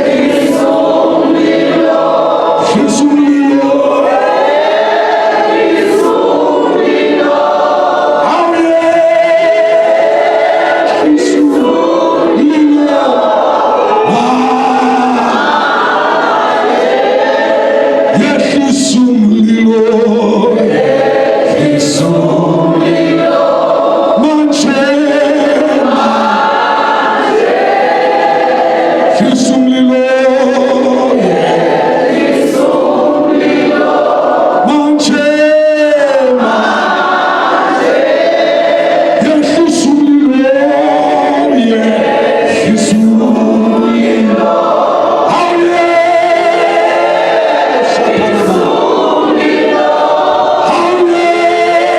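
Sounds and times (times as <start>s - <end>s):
congregation singing unaccompanied: 0.0s - 51.9s
wavering singing voice: 0.0s - 51.9s.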